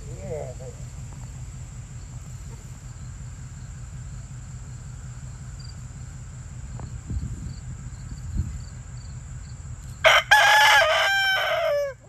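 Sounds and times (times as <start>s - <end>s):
low rumble: 0.0s - 10.0s
crickets droning: 0.0s - 12.0s.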